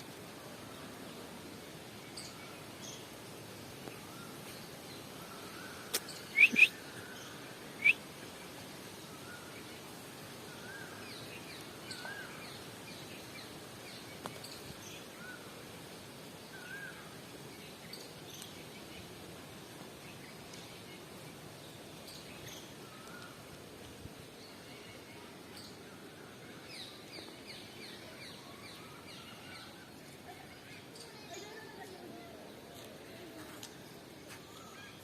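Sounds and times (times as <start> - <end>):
birds chirping: 0.0 - 35.0
steady background hiss: 0.0 - 35.0.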